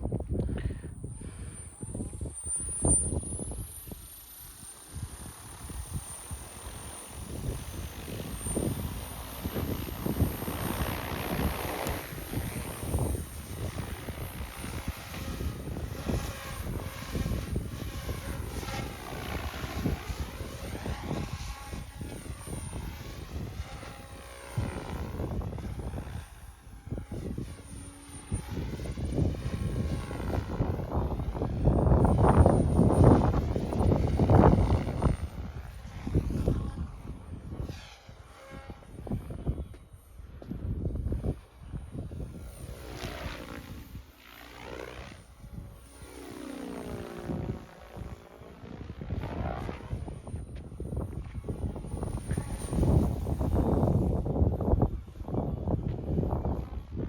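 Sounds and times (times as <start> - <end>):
wind buffeting microphone: 0.0 - 4.2, 4.9 - 57.0
model helicopter rotor whine: 0.0 - 57.0.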